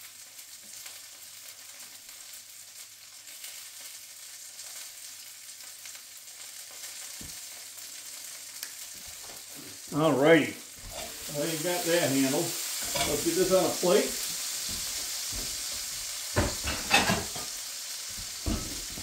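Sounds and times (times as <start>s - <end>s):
sausages sizzling in a pan: 0.0s - 19.0s.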